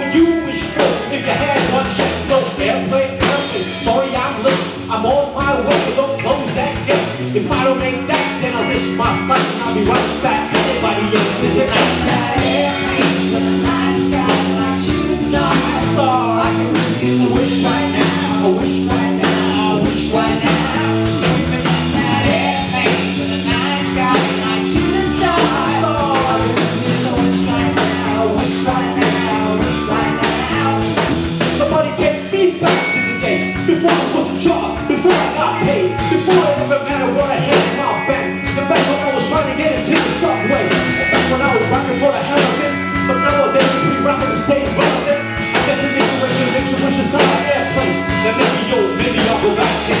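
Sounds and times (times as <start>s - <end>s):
bass guitar: 0.0s - 50.0s
drum kit beating: 0.0s - 50.0s
electric guitars: 0.0s - 50.0s.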